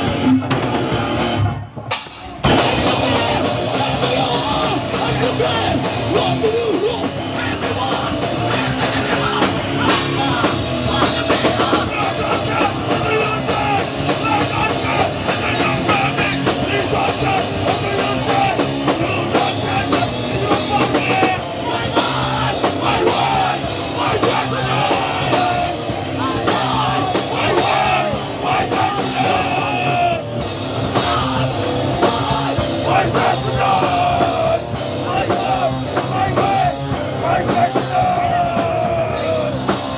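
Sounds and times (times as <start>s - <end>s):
punk band playing live: 0.0s - 39.9s
person singing or shouting: 2.5s - 30.4s, 31.0s - 39.8s.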